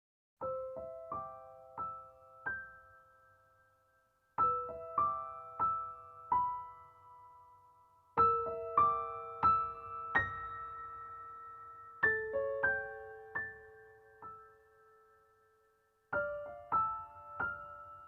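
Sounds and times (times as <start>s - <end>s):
gentle piano melody: 0.4s - 18.0s.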